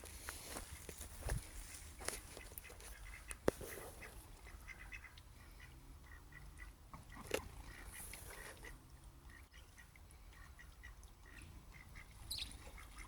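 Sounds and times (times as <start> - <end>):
ducks calling softly: 0.0 - 13.0.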